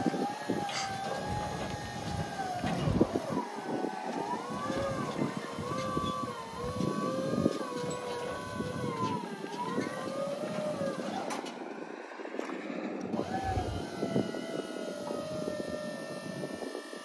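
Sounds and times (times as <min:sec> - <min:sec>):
hydraulic pump motor whining: 0:00.0 - 0:11.8, 0:13.0 - 0:17.0.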